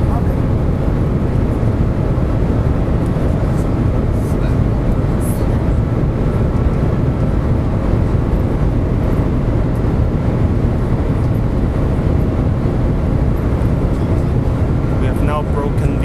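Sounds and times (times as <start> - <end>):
train cabin rumble and rush: 0.0 - 16.0.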